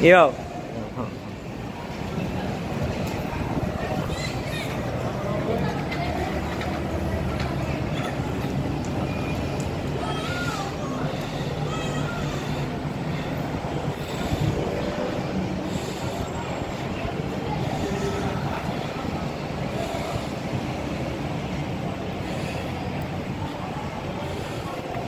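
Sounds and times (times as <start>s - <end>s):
city noise rumble: 0.0s - 25.0s.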